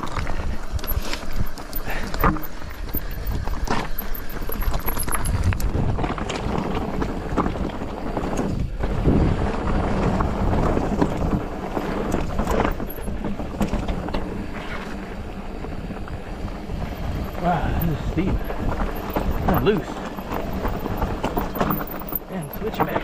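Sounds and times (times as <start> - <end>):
bike knocks and rattles: 0.0 - 23.0
tyres crunching over gravel: 0.0 - 23.0
wind buffeting microphone: 0.0 - 23.0.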